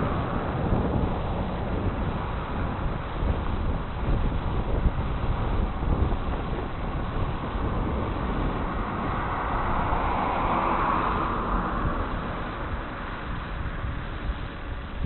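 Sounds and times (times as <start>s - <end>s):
broad rushing noise: 0.0s - 15.0s
wind buffeting microphone: 0.0s - 15.0s.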